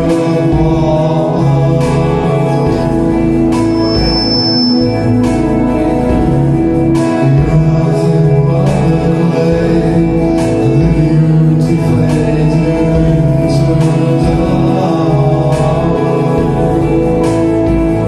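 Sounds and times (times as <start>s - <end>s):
bass: 0.0s - 18.0s
electric guitar: 0.0s - 18.0s.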